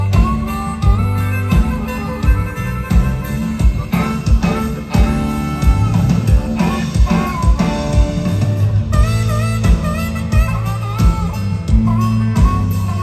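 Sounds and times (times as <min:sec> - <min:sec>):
country band playing: 0:00.0 - 0:13.0
electric guitar lead line: 0:00.0 - 0:13.0.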